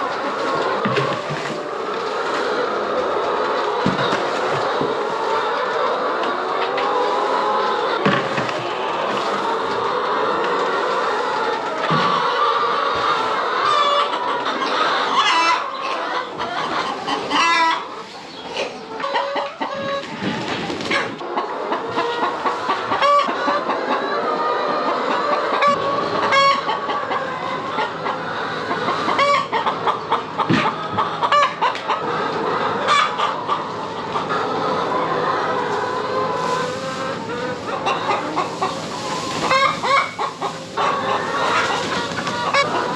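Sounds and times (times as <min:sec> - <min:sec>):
hens clucking: 0:00.0 - 0:42.9.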